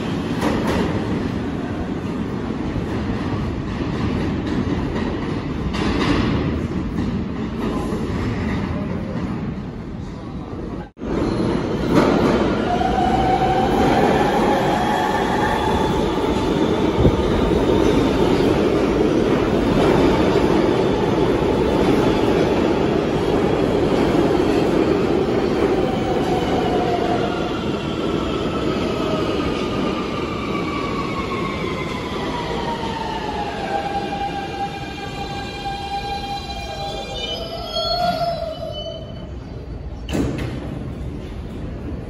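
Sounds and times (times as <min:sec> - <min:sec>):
subway train wheels rumbling: 0:00.0 - 0:42.0.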